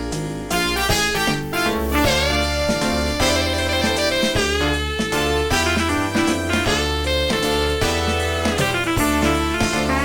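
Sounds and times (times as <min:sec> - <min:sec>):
polyphonic ringtone jazzy tune: 0:00.6 - 0:10.0.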